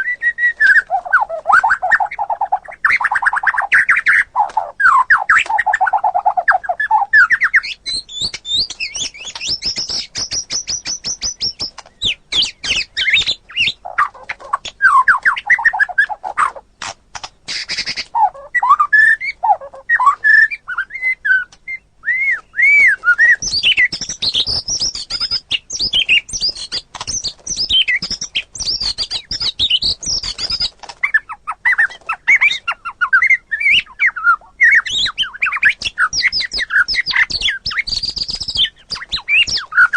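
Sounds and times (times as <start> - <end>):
bird singing whistles and trills: 0.0 - 16.6, 17.5 - 39.9.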